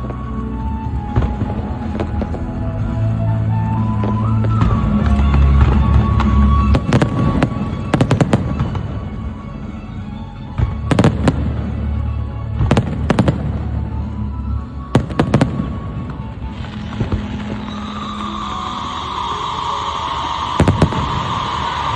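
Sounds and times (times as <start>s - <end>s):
music with low bass: 0.0s - 18.2s
fireworks cracking: 0.0s - 21.9s.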